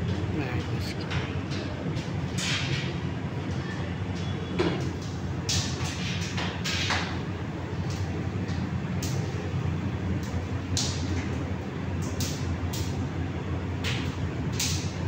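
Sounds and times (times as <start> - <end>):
kitchen roar: 0.0 - 15.0.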